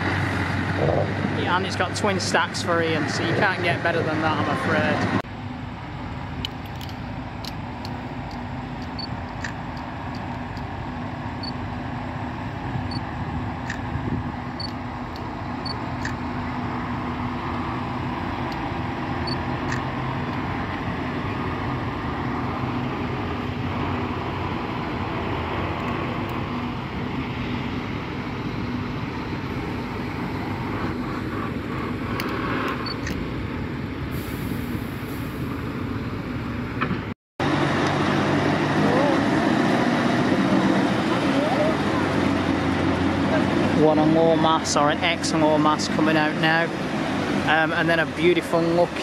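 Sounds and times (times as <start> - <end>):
truck diesel engine running: 0.0 - 36.8, 37.4 - 49.0.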